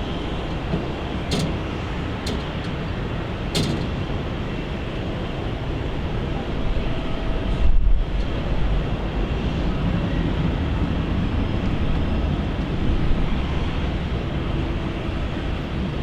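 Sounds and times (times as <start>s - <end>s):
jet airliner engine: 0.0s - 16.0s.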